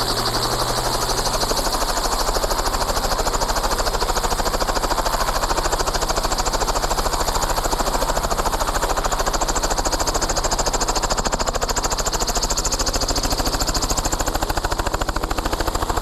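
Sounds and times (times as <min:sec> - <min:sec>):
helicopter rotor thumping: 0:00.0 - 0:16.0.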